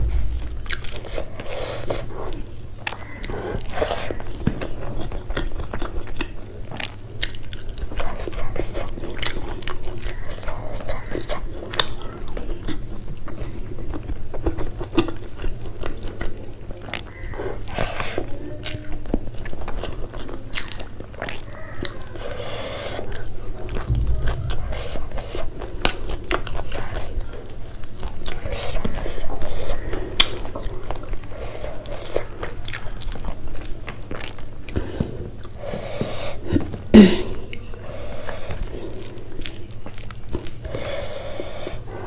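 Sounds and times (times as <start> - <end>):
chewing and crunching: 0.4 - 24.2, 25.8 - 42.0.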